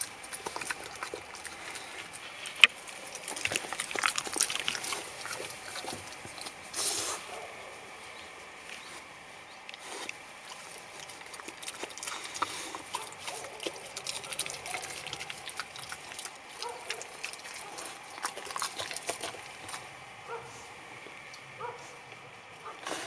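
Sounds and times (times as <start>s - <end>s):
dog chewing food: 0.0s - 23.0s.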